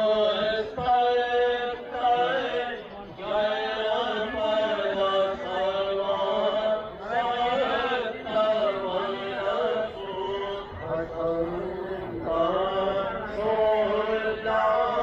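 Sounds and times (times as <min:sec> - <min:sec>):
chanting over loudspeaker: 0:00.0 - 0:15.0.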